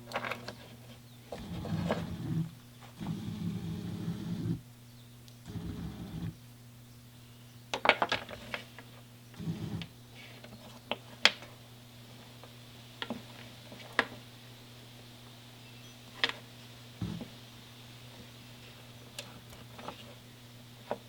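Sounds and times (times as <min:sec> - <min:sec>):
steady low hum: 0:00.0 - 0:07.8, 0:08.4 - 0:21.0.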